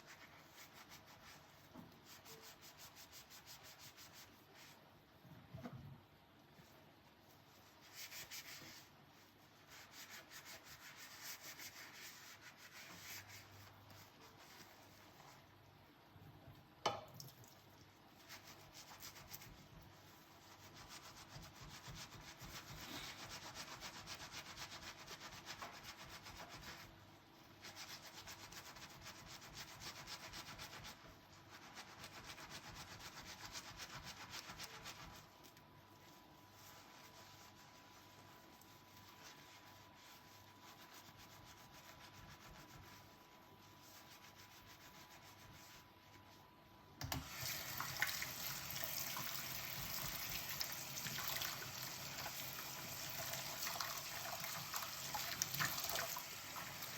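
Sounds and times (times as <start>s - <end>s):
sponge scrubbing dishes: 7.4s - 15.5s, 17.6s - 45.9s, 47.3s - 56.9s.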